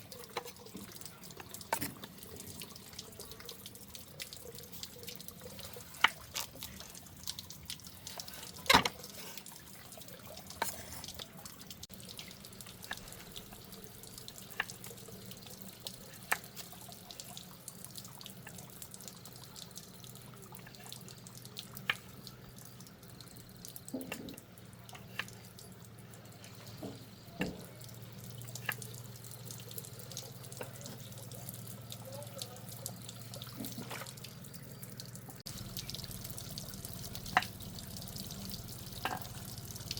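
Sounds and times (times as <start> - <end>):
water running and splashing: 0.0 - 39.9.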